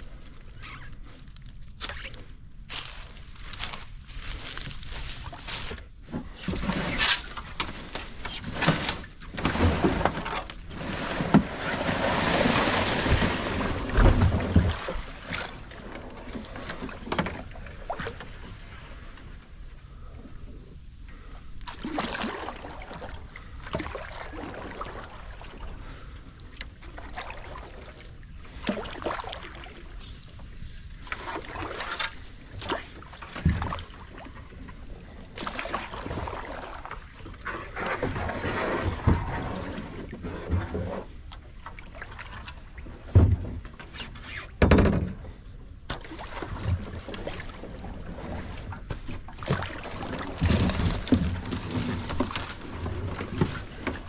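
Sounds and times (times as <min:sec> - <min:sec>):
paddle strokes splashing water: 0:02.0 - 0:19.2, 0:21.1 - 0:26.2, 0:26.8 - 0:44.6, 0:45.4 - 0:54.0.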